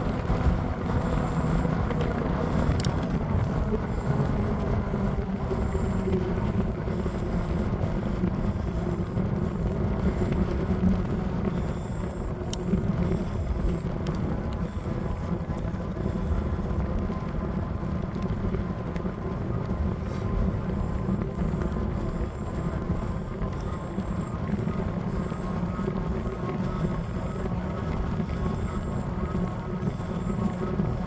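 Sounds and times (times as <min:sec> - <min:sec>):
road noise from moving bike: 0:00.0 - 0:31.0
wind rushing on microphone: 0:00.0 - 0:31.0
faint ticks: 0:00.1 - 0:31.0.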